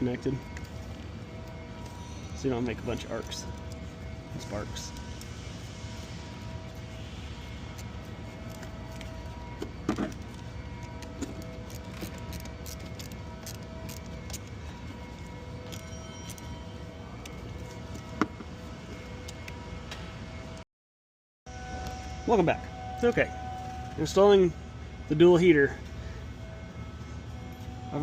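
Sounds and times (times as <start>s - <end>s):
low hum of work bay: 0.0s - 20.6s, 21.5s - 28.0s.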